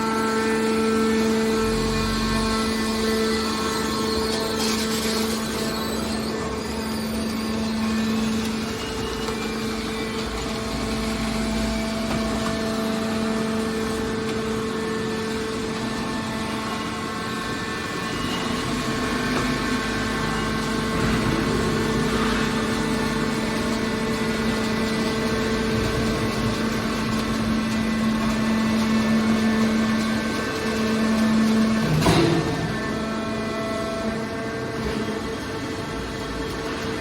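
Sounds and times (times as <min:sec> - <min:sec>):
hydraulic baler humming: 0:00.0 - 0:37.0.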